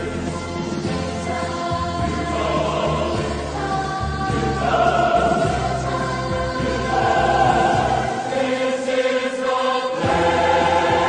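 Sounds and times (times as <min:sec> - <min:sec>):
choir singing held chords: 0:00.0 - 0:11.0
low musical accompaniment: 0:00.0 - 0:11.0.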